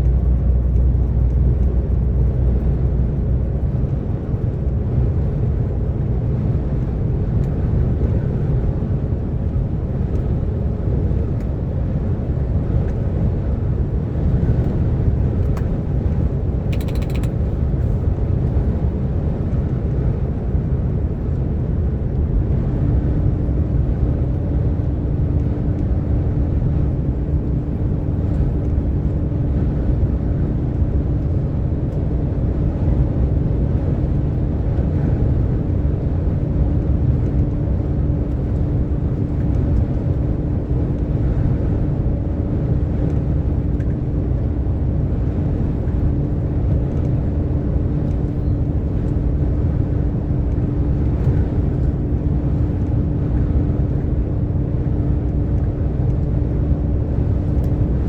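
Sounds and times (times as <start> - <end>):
road rumble: 0.0 - 58.0.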